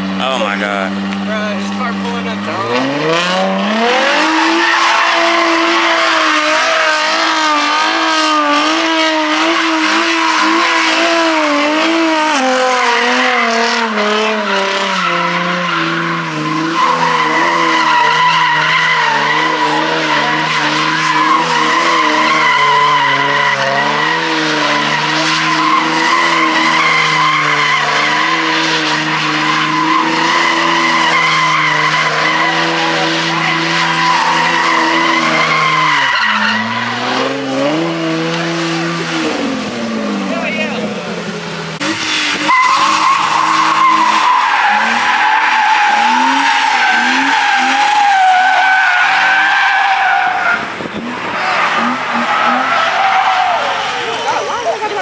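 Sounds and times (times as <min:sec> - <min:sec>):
car engine revving high: 0:00.0 - 0:55.0
tyres squealing: 0:00.1 - 0:41.1, 0:41.8 - 0:55.0.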